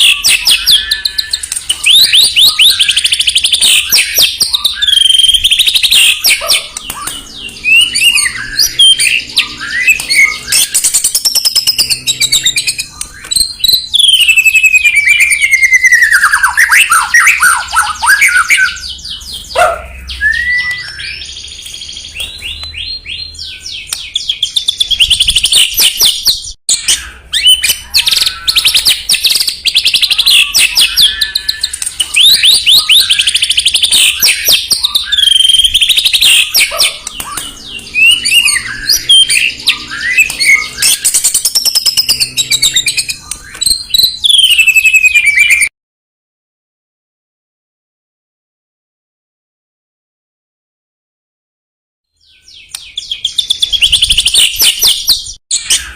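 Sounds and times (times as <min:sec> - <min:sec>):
bird whistles and trills: 0:00.0 - 0:45.7, 0:52.2 - 0:55.9.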